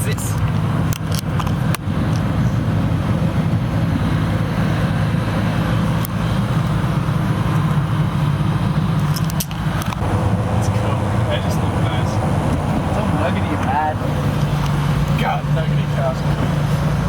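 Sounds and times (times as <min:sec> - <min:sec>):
car engine and road drone: 0:00.0 - 0:17.0.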